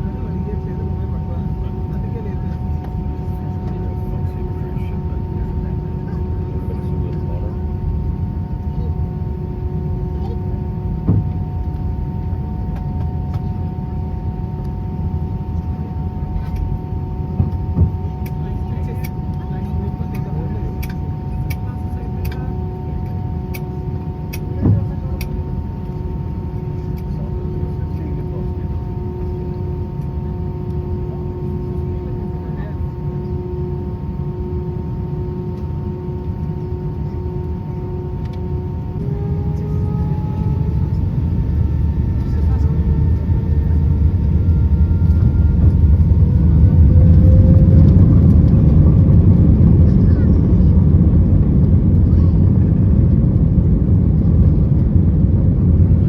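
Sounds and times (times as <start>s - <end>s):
aircraft cabin rumble: 0.0s - 56.0s
engine hum: 0.0s - 56.0s.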